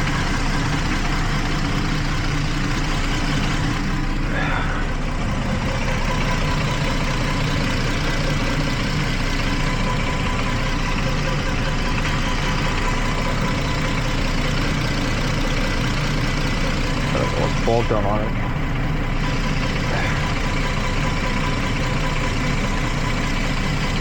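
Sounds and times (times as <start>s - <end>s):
engine idling with misfire: 0.0s - 24.0s.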